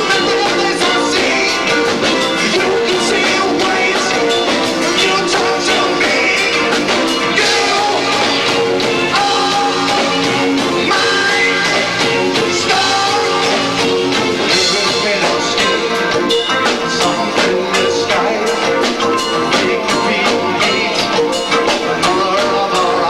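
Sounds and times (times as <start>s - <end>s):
drums playing: 0.0s - 23.0s
guitar: 0.0s - 23.0s
person singing: 0.0s - 23.0s.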